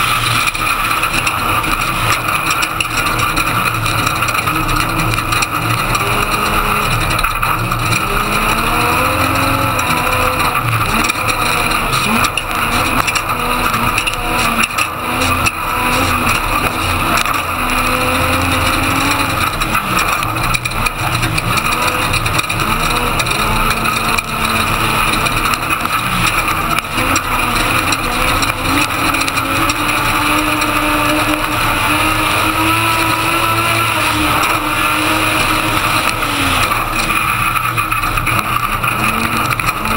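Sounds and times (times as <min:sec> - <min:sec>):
rattle and tyre noise: 0:00.0 - 0:39.9
truck engine revving: 0:00.0 - 0:39.9.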